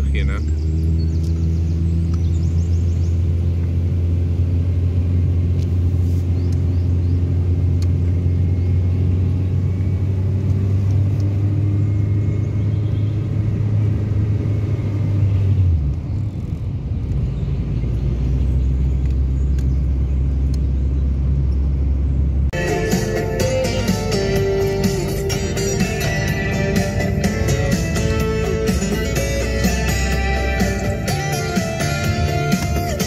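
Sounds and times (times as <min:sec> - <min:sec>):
car engine drone: 0:00.0 - 0:33.0
road rumble: 0:00.0 - 0:33.0.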